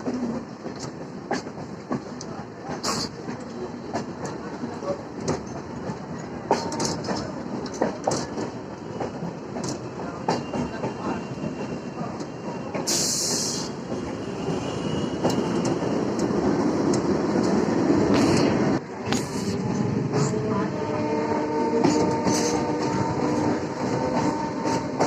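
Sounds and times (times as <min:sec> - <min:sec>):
train wheels clicking over rail joints: 0:00.0 - 0:20.4, 0:21.8 - 0:25.0
train rumble: 0:00.0 - 0:25.0.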